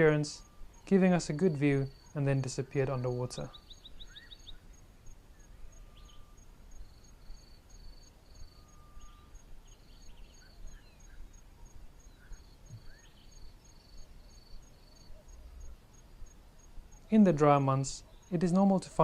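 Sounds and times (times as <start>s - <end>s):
bird chirps: 0.0s - 15.8s, 17.0s - 18.7s
insects chirping: 0.0s - 19.0s.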